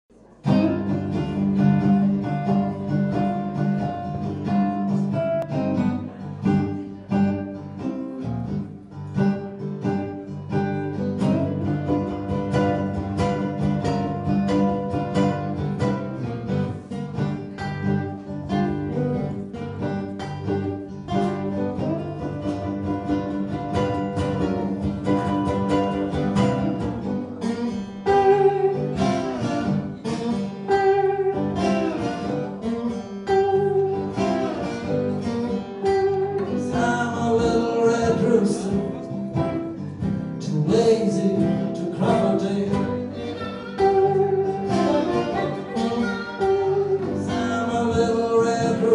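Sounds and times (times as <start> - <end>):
slow blues guitars: 0.1 - 48.9.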